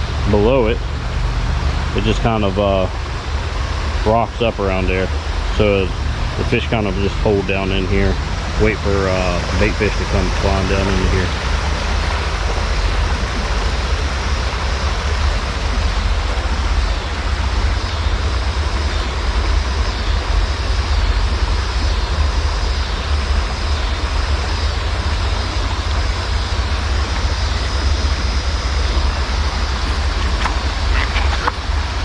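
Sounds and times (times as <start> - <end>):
river rapids rushing: 0.0 - 32.0
wind rumble on microphone: 0.0 - 32.0.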